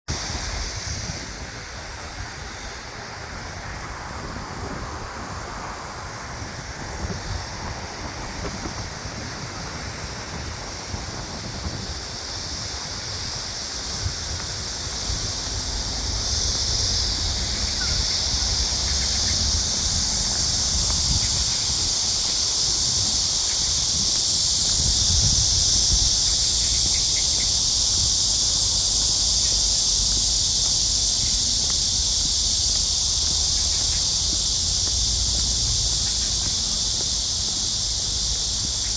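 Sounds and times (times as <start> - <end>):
cicadas singing: 0.1 - 38.9
wind rumble on microphone: 0.1 - 38.9.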